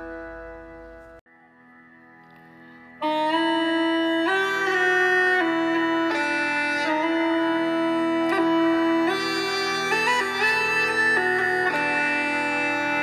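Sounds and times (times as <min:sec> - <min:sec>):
bagpipe drone: 0:00.0 - 0:13.0
bagpipe melody: 0:00.0 - 0:13.0.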